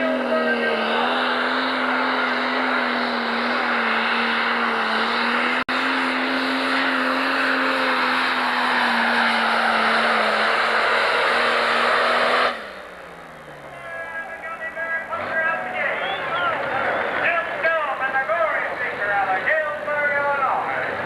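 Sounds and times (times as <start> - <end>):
diesel engine at full load: 0.0 - 21.0.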